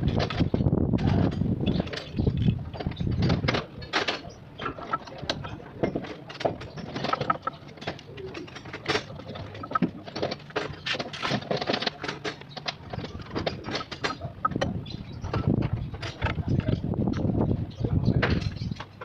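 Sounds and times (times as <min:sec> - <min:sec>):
hand tools clinking on metal: 0:01.3 - 0:16.8.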